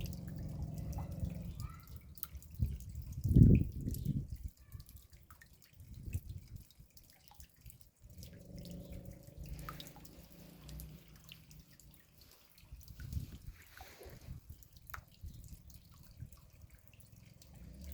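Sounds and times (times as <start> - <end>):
raindrops dripping: 0.0 - 17.9.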